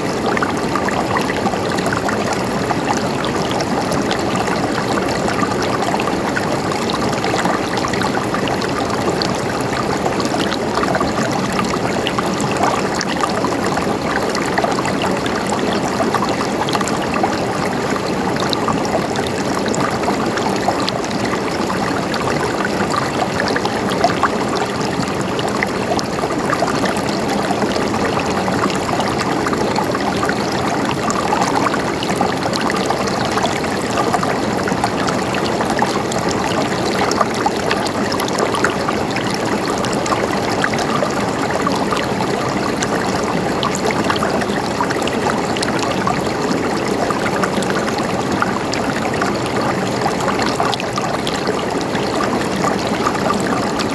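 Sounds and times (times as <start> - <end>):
stream water gurgling: 0.0 - 53.9.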